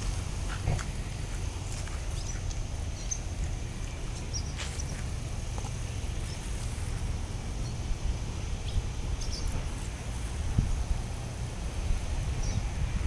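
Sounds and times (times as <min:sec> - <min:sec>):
small birds chirping: 0:00.0 - 0:11.0, 0:11.9 - 0:12.8
wind rumble on microphone: 0:00.0 - 0:13.0.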